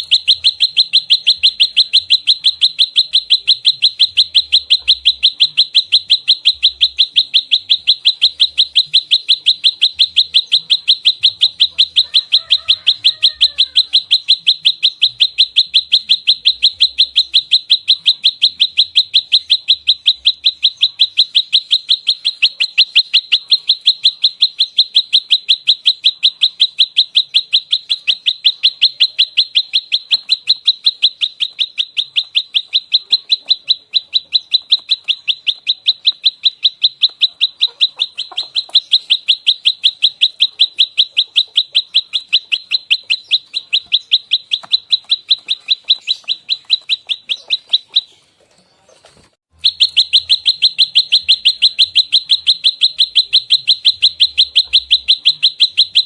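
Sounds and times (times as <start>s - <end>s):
bird rapid high-pitched call: 0.0s - 56.0s.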